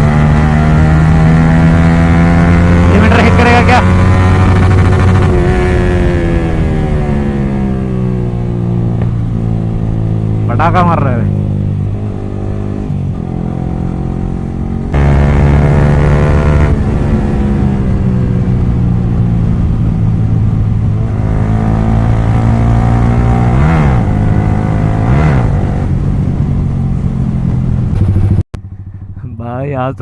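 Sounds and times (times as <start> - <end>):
loud motorcycle engine revving: 0.0 - 26.1.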